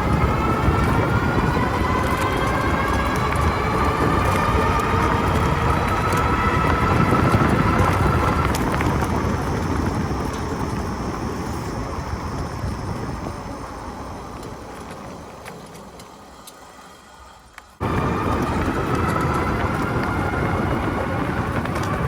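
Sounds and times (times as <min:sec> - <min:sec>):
wind rushing over microphone: 0:00.0 - 0:16.0, 0:17.8 - 0:22.0
thin steady whine: 0:00.0 - 0:22.0.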